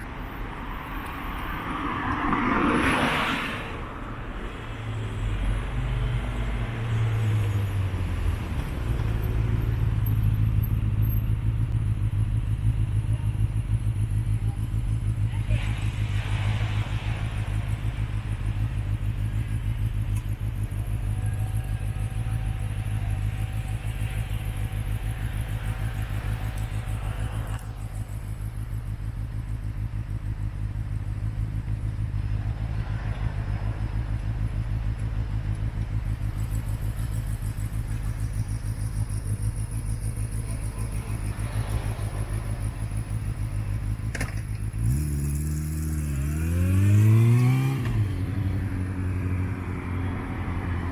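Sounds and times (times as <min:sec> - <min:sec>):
vehicle engine idling: 0:04.1 - 0:50.9.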